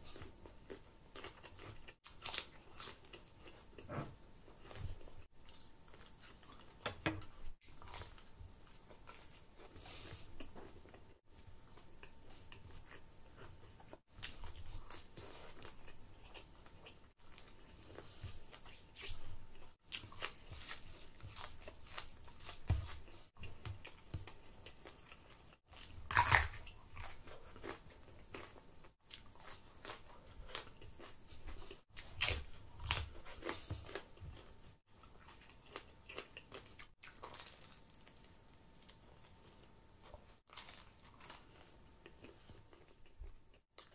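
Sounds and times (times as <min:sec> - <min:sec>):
chewing crusty bread: 0:00.0 - 0:43.9.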